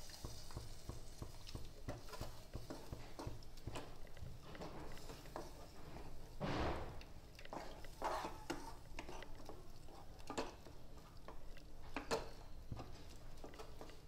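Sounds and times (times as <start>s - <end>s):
spatula scraping wok: 0.0s - 14.0s.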